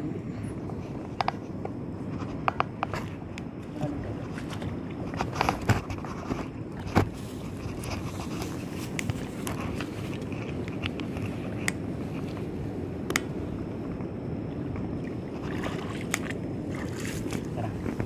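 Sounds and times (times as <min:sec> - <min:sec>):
wading through shallow water: 0:00.0 - 0:18.0.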